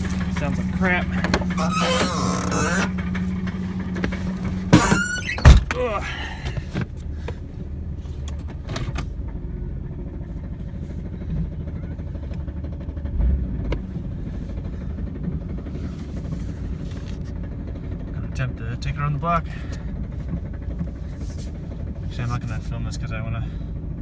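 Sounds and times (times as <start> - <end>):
engine knocking: 0.0 - 5.3, 5.9 - 24.0
car engine idling: 0.0 - 24.0.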